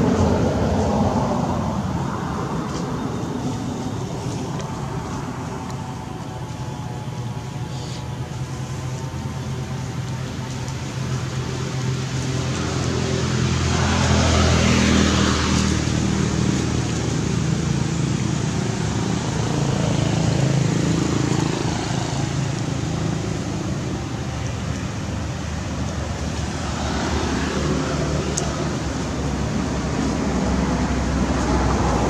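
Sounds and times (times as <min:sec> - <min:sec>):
low engine hum: 0:00.0 - 0:32.0
road traffic noise: 0:00.0 - 0:32.0.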